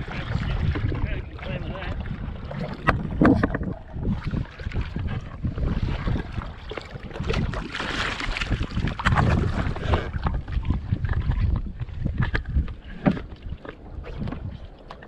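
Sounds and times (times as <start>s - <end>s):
water sloshing against hull: 0.0s - 15.0s
wind buffeting microphone: 0.0s - 15.0s.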